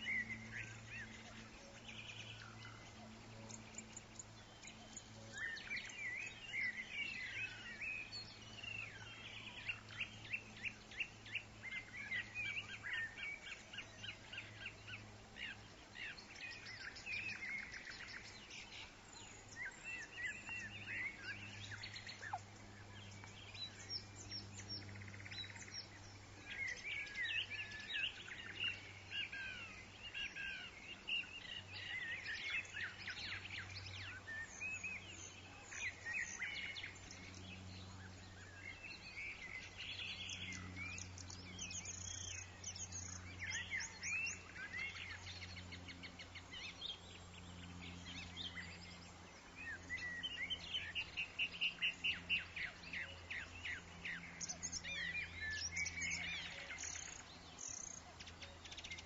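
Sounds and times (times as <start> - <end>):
low steady background hum: 0.0 - 59.0
songbirds chirping and singing: 0.0 - 59.0.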